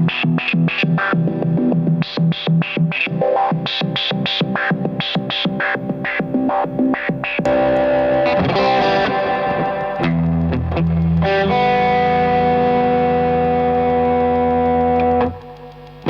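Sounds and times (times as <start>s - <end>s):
distorted electric guitar chords: 0.0s - 16.0s.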